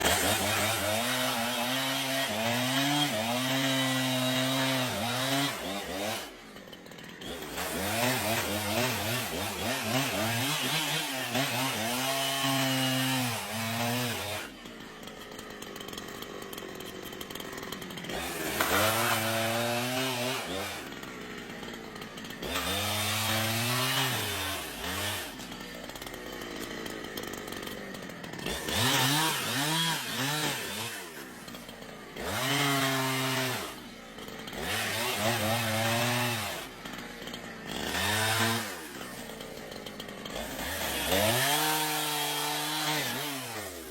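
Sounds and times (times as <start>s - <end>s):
chainsaw revving cutting wood: 0.0s - 43.9s.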